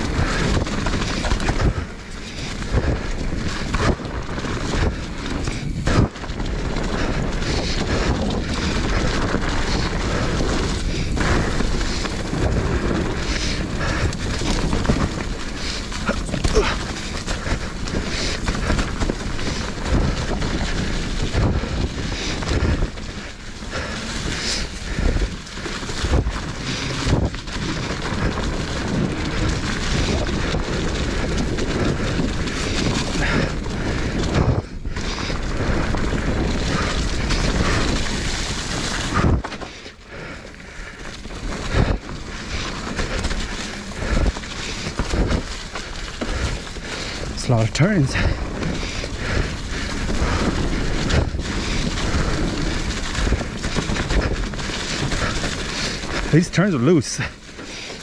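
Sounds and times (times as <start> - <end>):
wind on microphone: 0.0 - 39.6, 41.4 - 56.4
bike rattling over rocks: 0.0 - 58.0
bike tyres rumbling: 0.0 - 58.0.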